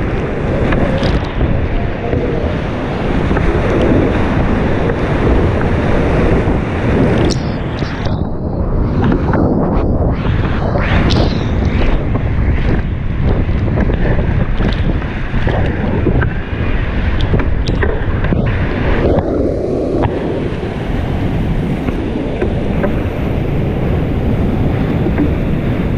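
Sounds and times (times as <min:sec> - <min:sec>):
whitewater rushing: 0:00.0 - 0:25.9
wind buffeting microphone: 0:00.0 - 0:25.9.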